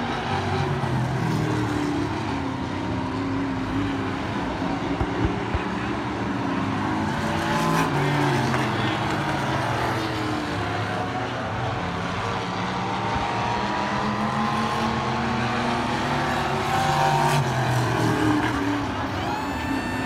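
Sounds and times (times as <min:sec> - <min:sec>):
stock car engines racing past: 0:00.0 - 0:20.0.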